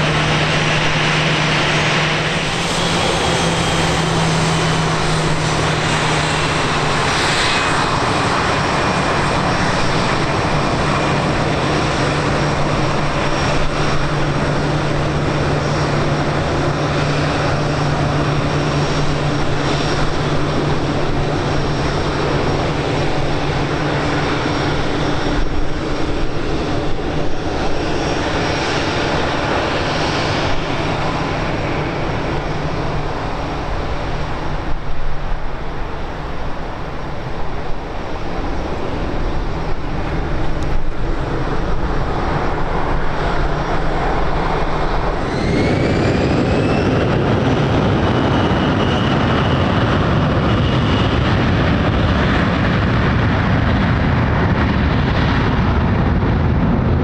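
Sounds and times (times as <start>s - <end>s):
airliner engines humming: 0.0s - 57.0s
wind buffeting microphone: 0.0s - 57.0s.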